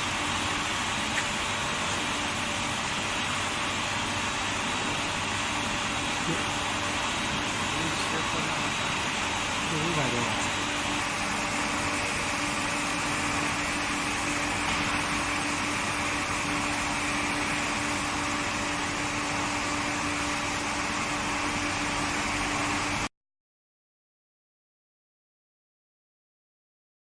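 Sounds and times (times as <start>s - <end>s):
furnace humming with low tone: 0.0s - 23.1s.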